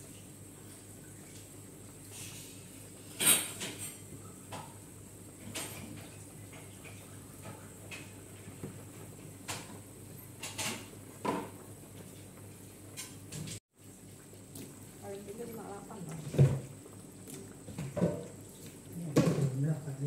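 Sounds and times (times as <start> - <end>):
broth simmering with soft pops: 0.0 - 20.0
low steady background hum: 0.0 - 20.0.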